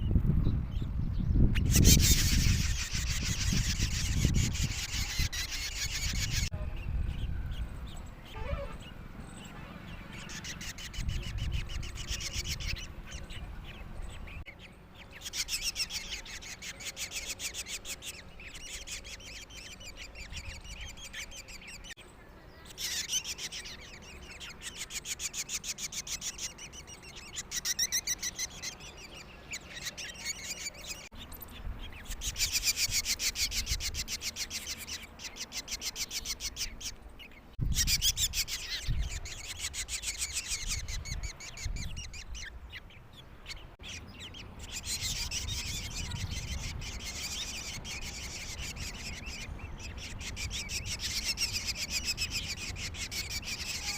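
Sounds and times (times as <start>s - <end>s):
young birds chirping: 0.0s - 53.9s.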